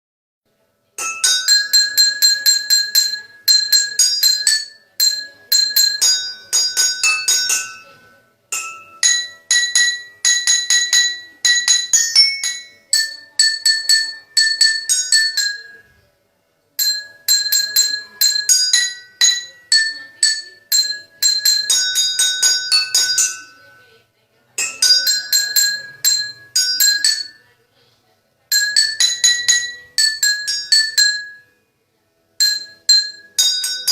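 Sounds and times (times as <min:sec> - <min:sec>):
melody tapped on bowls: 0:01.0 - 0:16.0, 0:16.8 - 0:23.9, 0:24.6 - 0:27.5, 0:28.5 - 0:31.6, 0:32.4 - 0:33.9.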